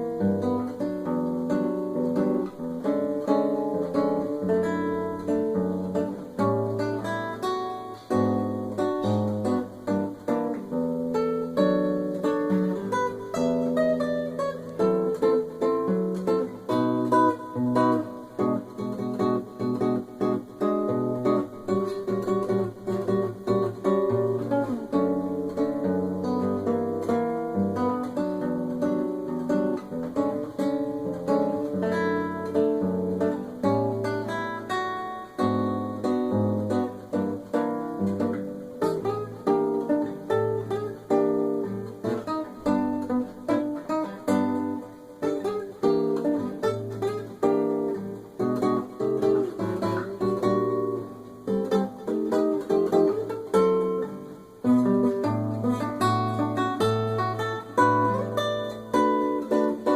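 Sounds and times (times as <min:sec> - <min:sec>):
fingerstyle acoustic guitar: 0:00.0 - 0:59.9.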